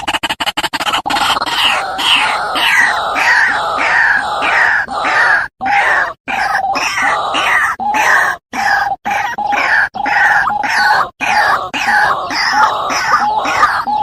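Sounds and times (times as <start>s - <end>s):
waterhen calling harsh notes: 0.7s - 14.0s.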